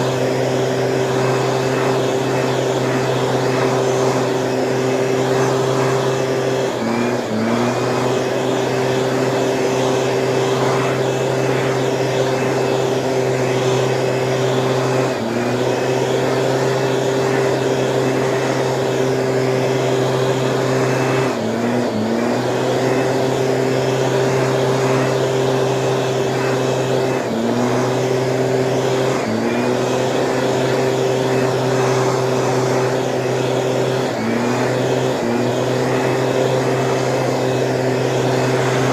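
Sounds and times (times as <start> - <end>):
petrol engine running at high speed: 0.0 - 38.9.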